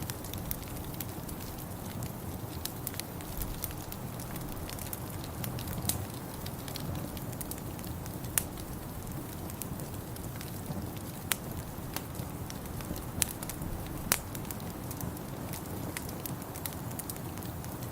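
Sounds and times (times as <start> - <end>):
sharp pops of fire: 0.0 - 17.9
wood fire crackling: 0.0 - 17.9.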